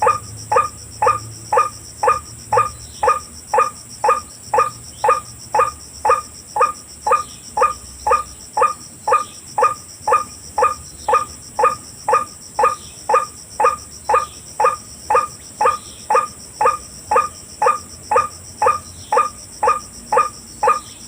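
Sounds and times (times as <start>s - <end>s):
high insect trilling: 0.0s - 21.0s
waterhen calling: 0.0s - 21.0s.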